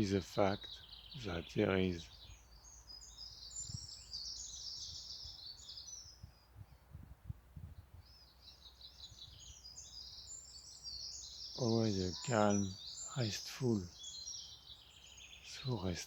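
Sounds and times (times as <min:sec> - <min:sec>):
birds chattering high-pitched song: 0:00.0 - 0:16.0
faint background noise: 0:00.0 - 0:16.0.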